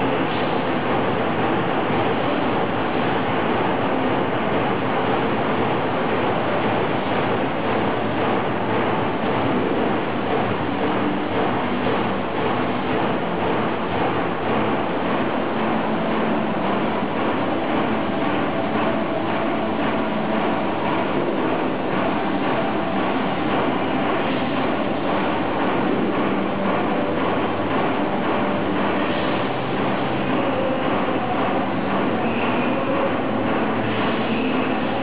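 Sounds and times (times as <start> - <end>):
laser cutting machine running: 0.0 - 35.0.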